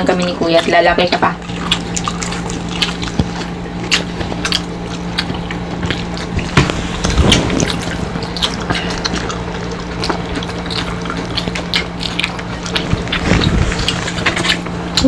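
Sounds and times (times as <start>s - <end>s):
chewing and lip smacks: 0.0s - 15.0s
steady low hum: 0.0s - 15.0s.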